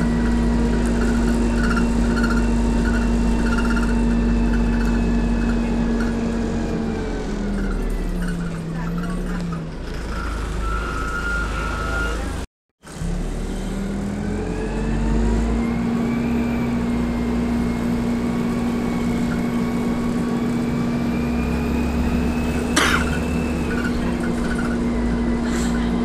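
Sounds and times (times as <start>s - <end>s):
bus engine rumble: 0.0s - 26.0s
engine and transmission whine: 0.0s - 26.0s.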